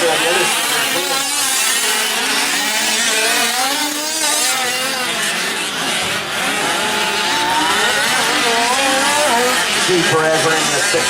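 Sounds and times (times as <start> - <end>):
rc truck engines revving: 0.0 - 11.0.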